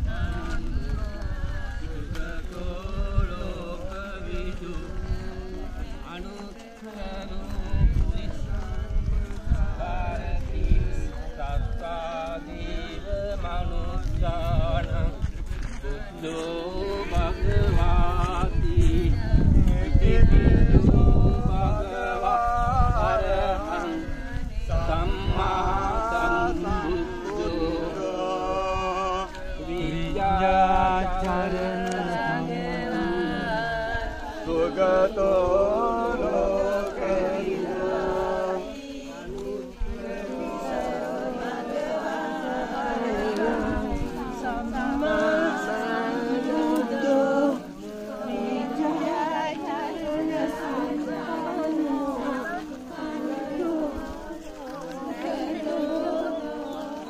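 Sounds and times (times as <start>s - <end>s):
group chanting devotional melody: 0.0s - 57.0s
wind rumbling on microphone: 0.0s - 57.0s.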